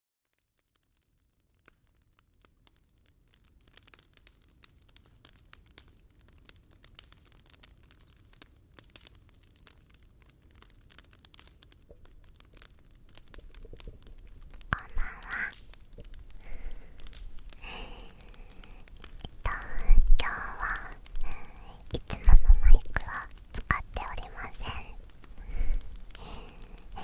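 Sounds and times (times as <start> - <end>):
wood fire crackling and popping: 3.4 - 27.0.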